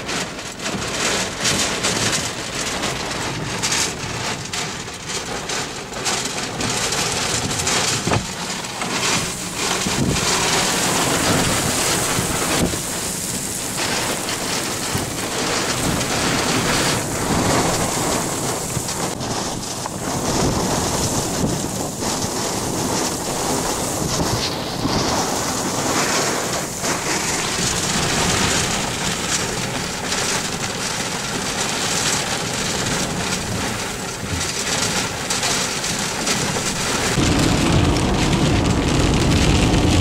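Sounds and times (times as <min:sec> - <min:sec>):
rain and hail on vehicle roof: 0:00.0 - 0:40.0.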